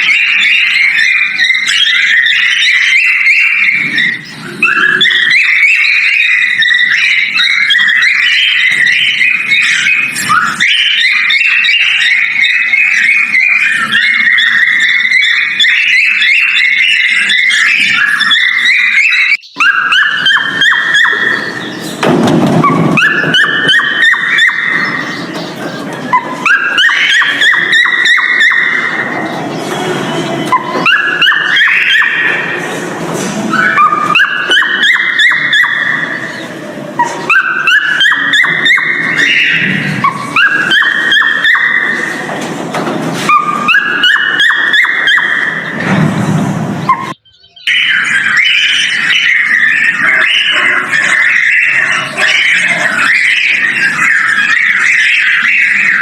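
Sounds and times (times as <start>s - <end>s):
cockatiel whistling: 0.0s - 32.6s, 33.5s - 36.4s, 37.0s - 42.2s, 46.8s - 56.0s.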